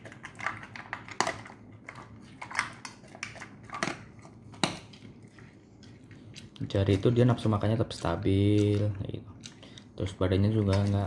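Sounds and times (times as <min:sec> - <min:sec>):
dog crunching dry kibble: 0:00.0 - 0:11.0.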